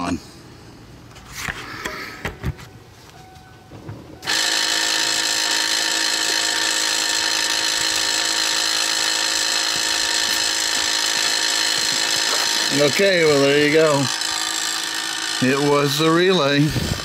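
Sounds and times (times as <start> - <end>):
electric compressor whine: 0.0 - 17.0.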